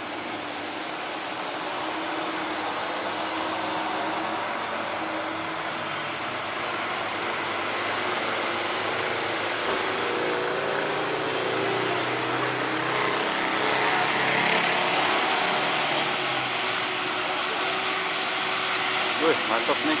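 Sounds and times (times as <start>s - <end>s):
diesel truck engine straining: 0.0s - 20.0s.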